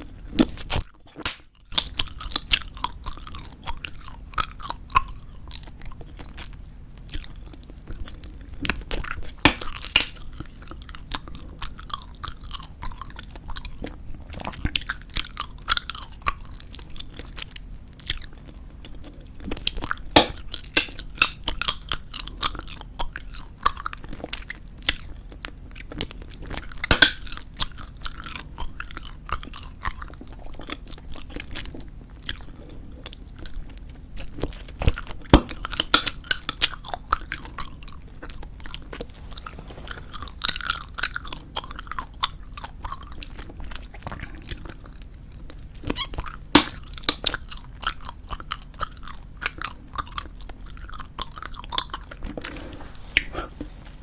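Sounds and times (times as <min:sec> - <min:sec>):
gum clicks and snaps: 0:00.3 - 0:06.4, 0:07.0 - 0:18.5, 0:19.4 - 0:32.4, 0:33.4 - 0:39.1, 0:40.1 - 0:52.3.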